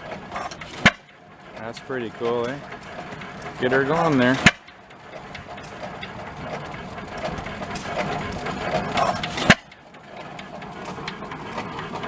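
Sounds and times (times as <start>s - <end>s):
stationary gas engine running: 0.0s - 12.0s.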